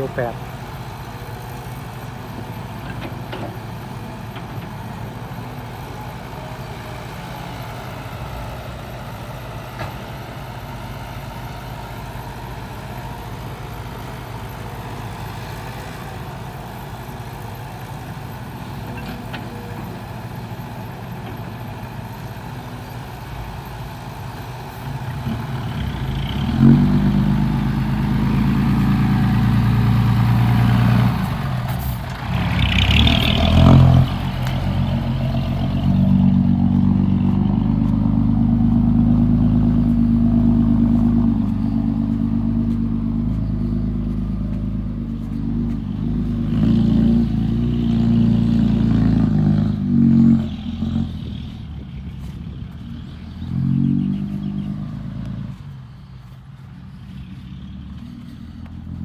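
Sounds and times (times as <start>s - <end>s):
diesel engines running: 0.0s - 59.0s
dump truck engine revving: 0.0s - 59.0s.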